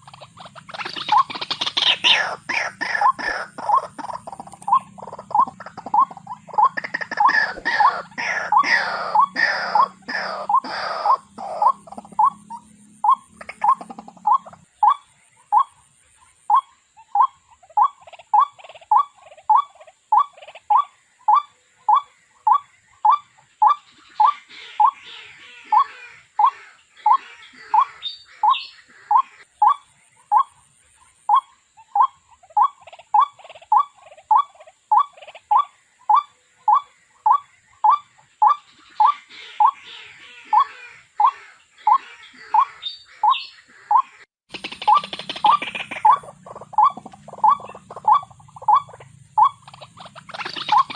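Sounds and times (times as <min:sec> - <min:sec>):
waterhen calling: 0:00.0 - 0:50.9.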